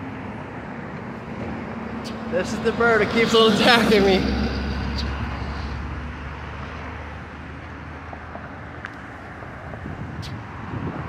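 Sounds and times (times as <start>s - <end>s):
passing vehicle rumble: 0.0s - 11.0s.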